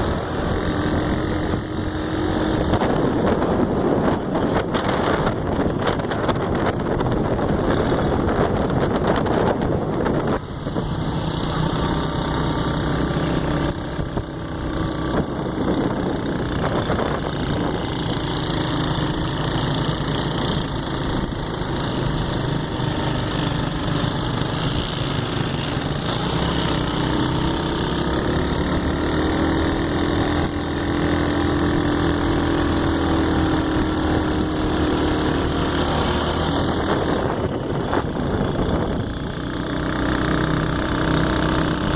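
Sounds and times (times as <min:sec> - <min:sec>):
road and wind noise: 0:00.0 - 0:41.9
vehicle engine running: 0:00.0 - 0:41.9.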